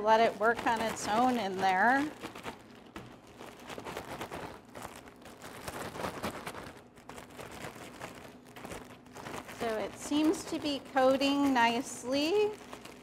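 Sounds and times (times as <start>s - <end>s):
cereal rattling in a bag: 0.0s - 13.0s
plastic bag crinkling: 0.0s - 13.0s.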